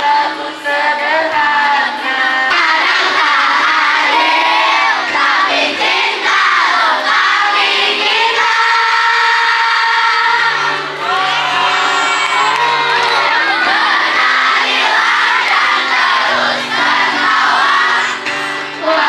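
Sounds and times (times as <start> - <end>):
crowd noise and shouting: 0.0 - 19.0
music: 0.0 - 19.0
young voices singing: 0.0 - 19.0.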